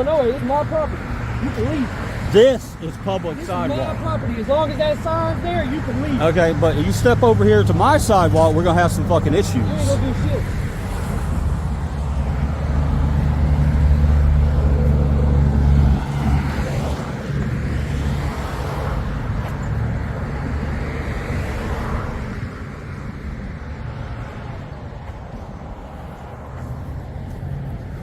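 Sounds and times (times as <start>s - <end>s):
steady traffic hum: 0.0s - 28.0s
vehicle engine rumble: 0.0s - 28.0s.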